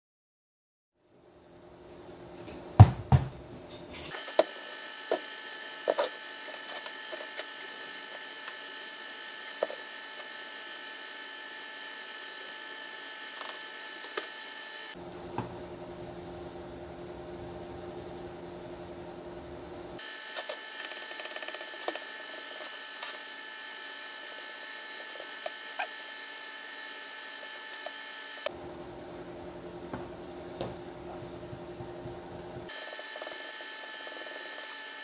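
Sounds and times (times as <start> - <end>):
steady background hum: 1.0 - 35.0.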